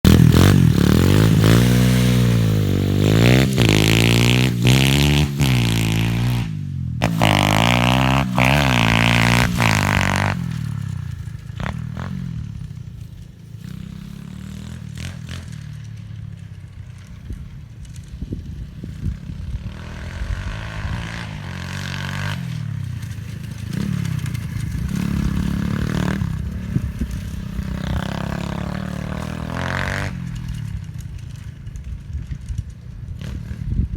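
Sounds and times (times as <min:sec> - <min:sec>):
pit bike engine revving: 0:00.0 - 0:17.4, 0:18.2 - 0:33.9.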